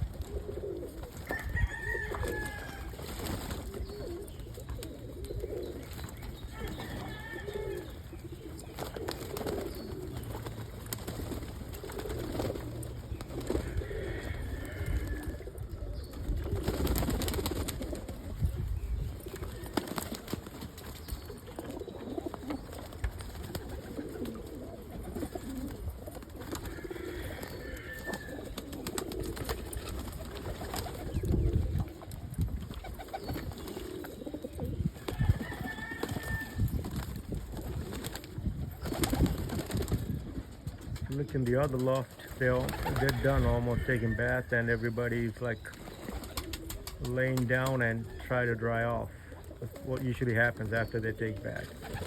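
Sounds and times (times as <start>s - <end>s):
pigeons cooing: 0.0s - 52.0s.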